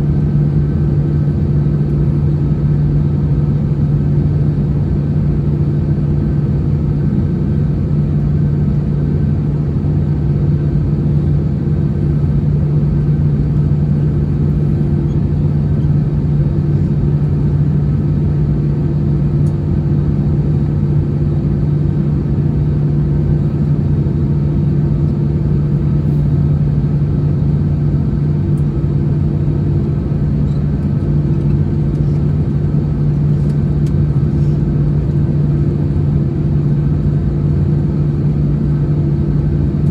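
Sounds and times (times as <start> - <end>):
airplane cabin engine hum: 0.0 - 39.9
low rumble of airflow: 0.0 - 39.9.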